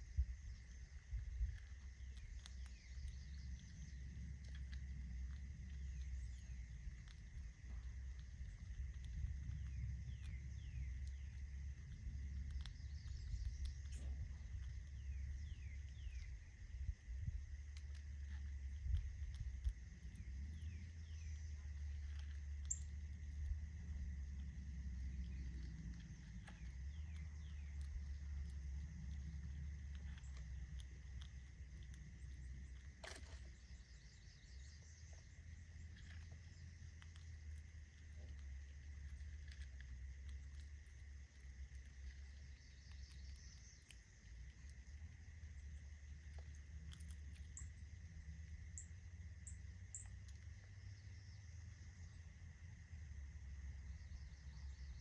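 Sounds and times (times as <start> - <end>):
faint high hum: 0.0 - 55.0
steady low rumble: 0.0 - 55.0
small clicks: 0.6 - 16.4, 17.1 - 34.0, 34.6 - 50.7.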